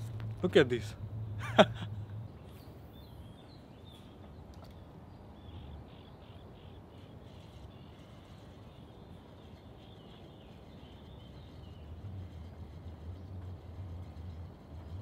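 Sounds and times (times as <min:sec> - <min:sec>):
faint bird chirps: 0:02.3 - 0:14.4.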